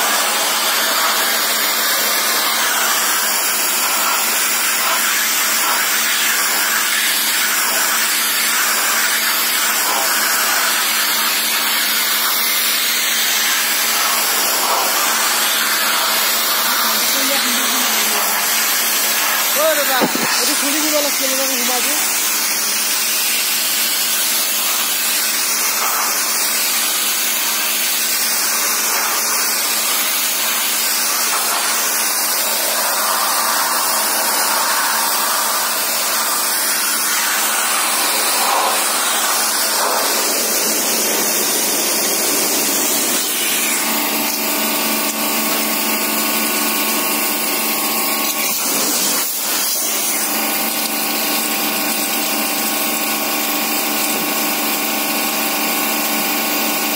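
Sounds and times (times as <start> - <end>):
high-pressure water jet hissing: 0.0 - 56.9
pressure washer motor whining: 0.0 - 56.9.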